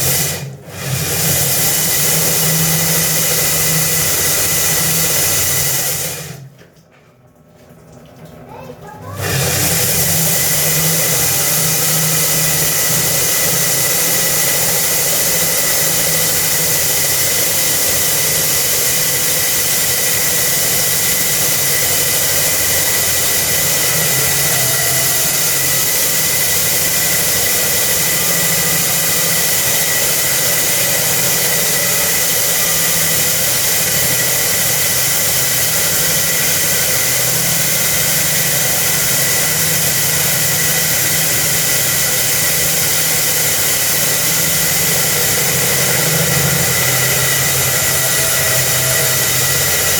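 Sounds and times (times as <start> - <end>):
concrete core-cutting machine: 0.0 - 6.6, 8.5 - 49.9.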